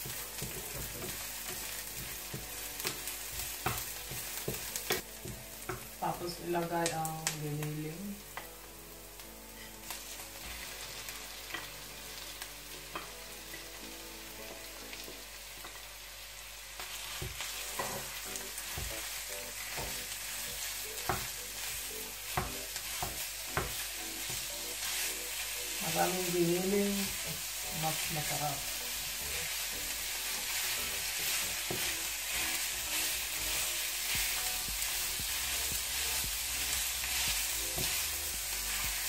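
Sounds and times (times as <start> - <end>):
meat sizzling in a frying pan: 0.0 - 39.0.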